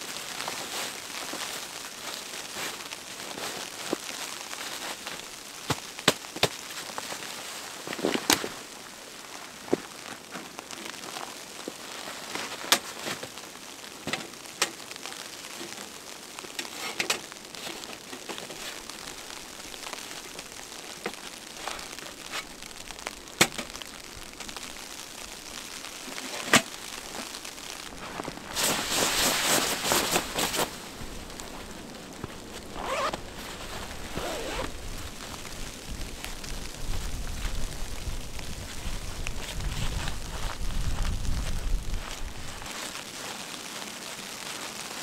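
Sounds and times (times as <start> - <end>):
crinkly fabric rustling: 0.0 - 45.0
wind and falling snow hiss: 0.0 - 45.0.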